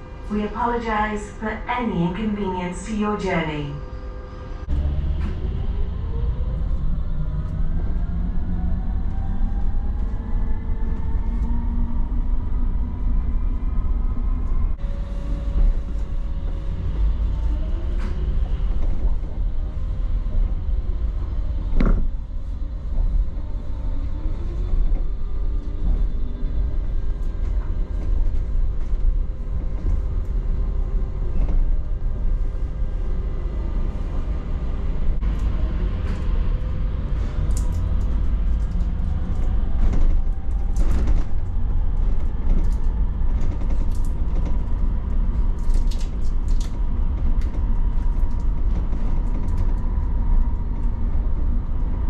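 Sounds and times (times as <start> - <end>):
bus low rumble: 0.0 - 52.0.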